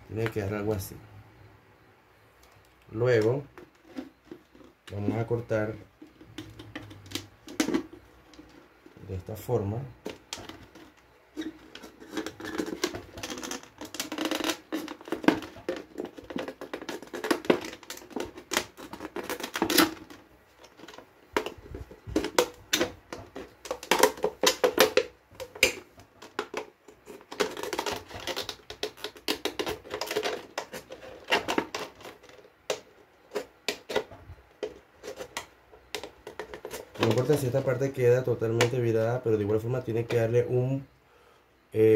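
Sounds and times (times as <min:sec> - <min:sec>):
plastic bottle crackling and clicking: 0:02.4 - 0:09.0, 0:10.0 - 0:38.8.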